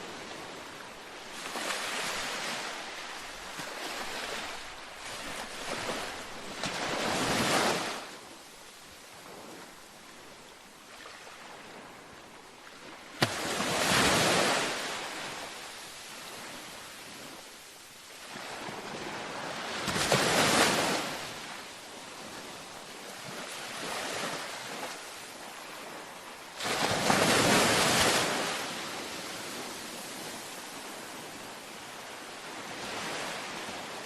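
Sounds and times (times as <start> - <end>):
ocean waves breaking: 0.0 - 8.2, 10.9 - 17.4, 18.2 - 34.0.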